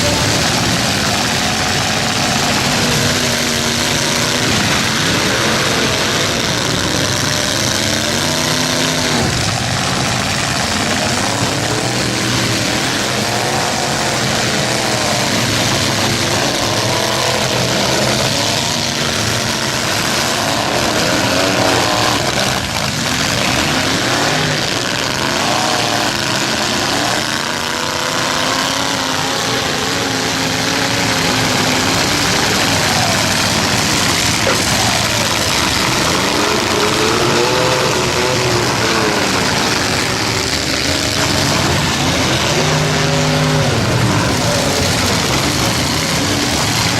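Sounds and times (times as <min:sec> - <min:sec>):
truck engines revving: 0:00.0 - 0:46.9.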